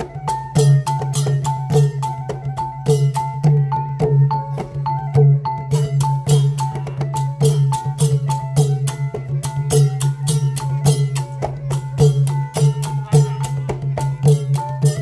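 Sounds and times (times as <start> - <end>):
goblet drums: 0.0 - 15.0.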